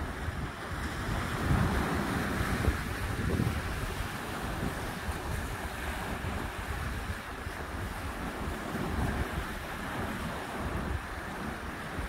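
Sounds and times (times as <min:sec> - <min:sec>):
ocean waves washing on shore: 0:00.0 - 0:12.0
wind buffeting microphone: 0:00.0 - 0:12.0.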